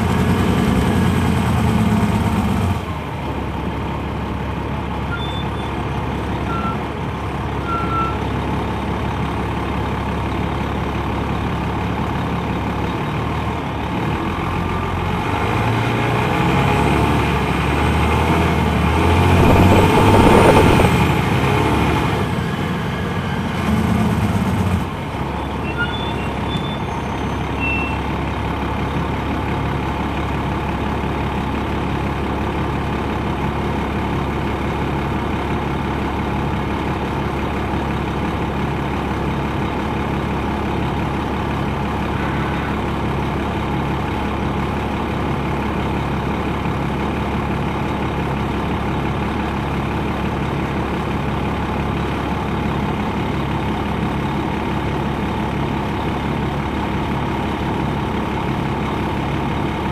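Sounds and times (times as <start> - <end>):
bus engine humming: 0.0 - 59.9.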